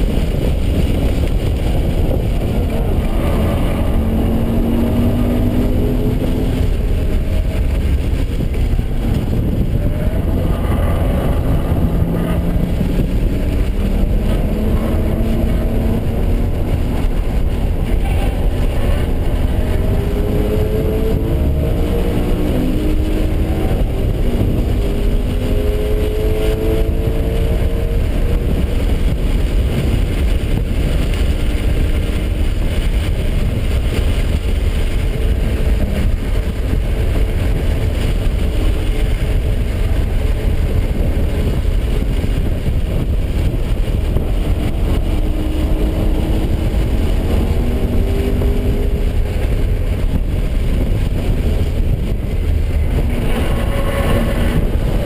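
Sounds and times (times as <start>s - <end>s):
car engine accelerating: 0.0s - 55.0s
low rumble of road and wind: 0.0s - 55.0s.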